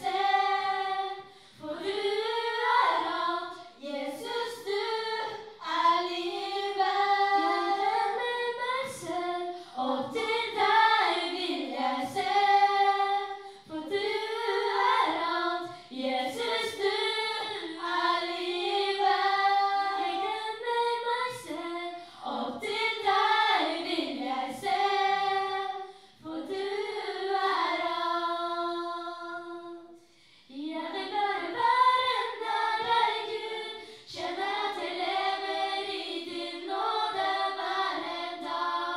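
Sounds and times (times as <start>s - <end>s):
young women singing through pa: 0.0s - 38.9s.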